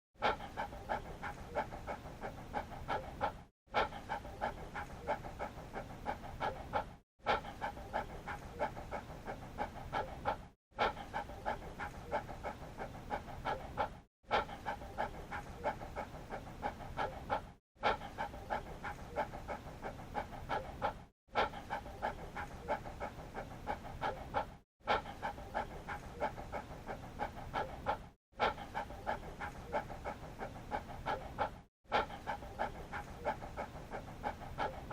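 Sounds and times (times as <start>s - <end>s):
dog panting: 0.2s - 34.9s.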